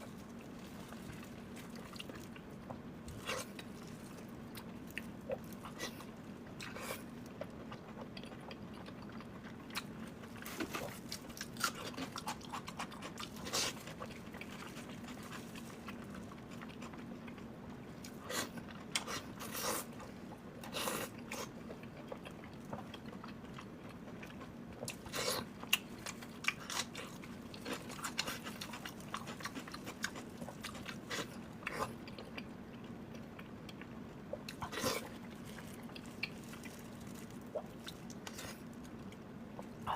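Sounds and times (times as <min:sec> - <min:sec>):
close chewing and crunching: 0:00.0 - 0:39.9
faint steady hum: 0:00.0 - 0:39.9.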